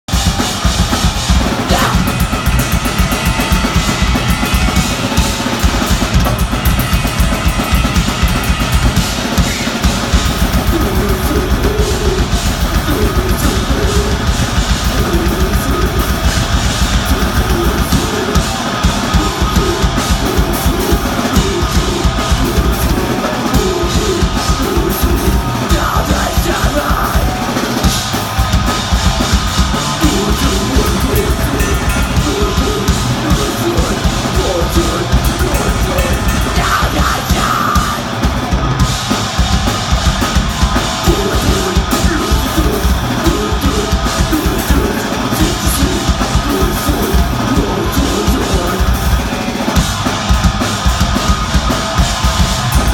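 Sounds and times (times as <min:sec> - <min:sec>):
distorted guitars: 0:00.0 - 0:52.9
fast dense drumming: 0:00.0 - 0:52.9.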